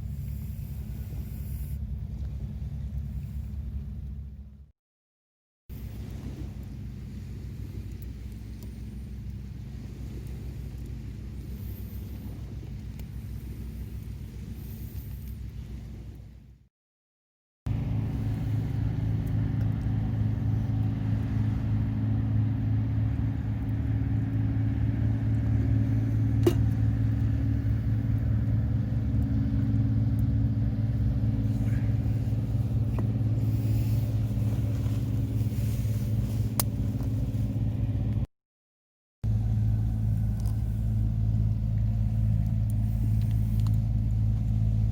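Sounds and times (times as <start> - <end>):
low engine hum: 0.0 - 4.8, 5.7 - 16.7, 17.7 - 38.3, 39.2 - 44.9.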